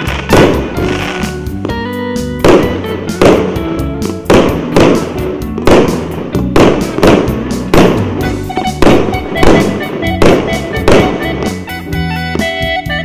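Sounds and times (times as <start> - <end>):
fireworks bangs with rumbling tail: 0.0 - 1.8, 2.4 - 11.7
music: 0.0 - 13.0.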